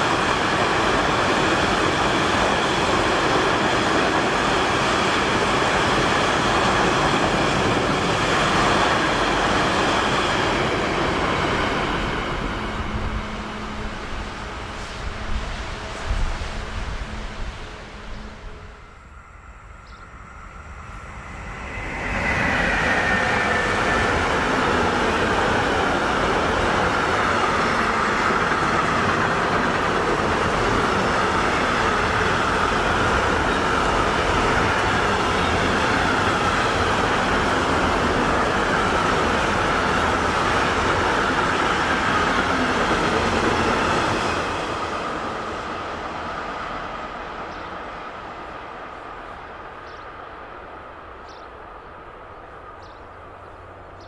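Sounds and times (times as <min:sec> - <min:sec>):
freight train wheels rumbling: 0:00.0 - 0:54.0
high train whine: 0:00.0 - 0:54.0.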